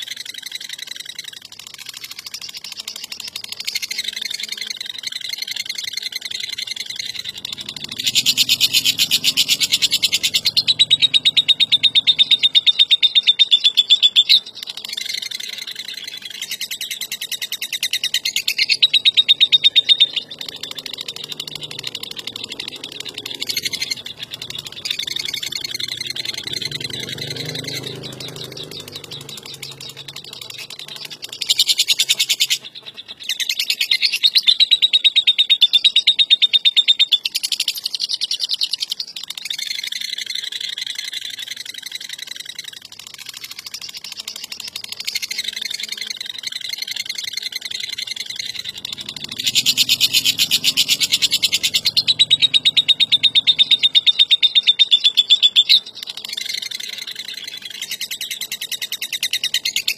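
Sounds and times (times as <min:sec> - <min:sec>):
lovebird chattering song: 0:00.0 - 0:59.9.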